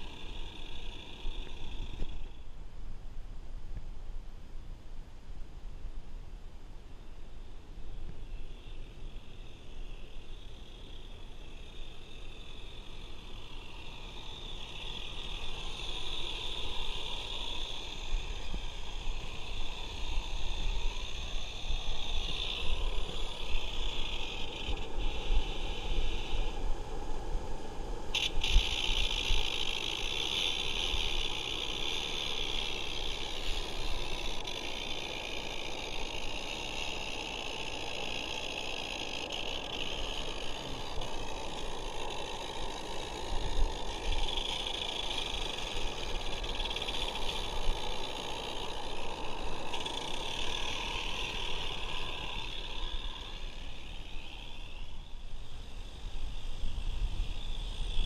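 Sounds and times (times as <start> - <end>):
steady hiss of steam: 0.0 - 2.3, 8.2 - 58.0.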